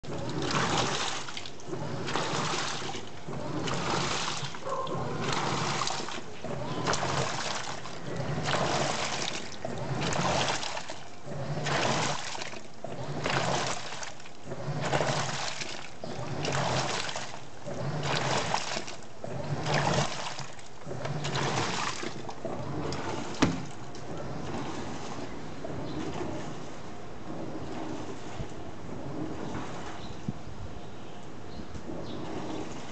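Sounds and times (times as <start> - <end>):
low motor hum: 0.0 - 32.9
washing machine water churning: 0.0 - 32.9.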